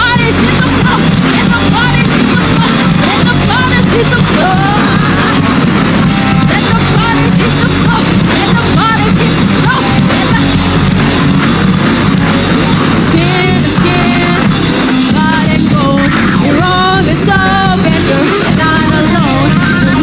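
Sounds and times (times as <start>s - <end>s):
person singing: 0.0s - 11.1s, 12.0s - 20.0s
drums: 0.0s - 20.0s
guitars: 0.0s - 20.0s
live rock band: 0.0s - 20.0s.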